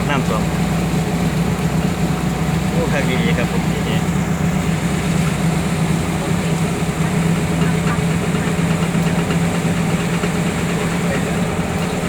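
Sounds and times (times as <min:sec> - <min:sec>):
car engine drone from cabin: 0:00.0 - 0:12.0.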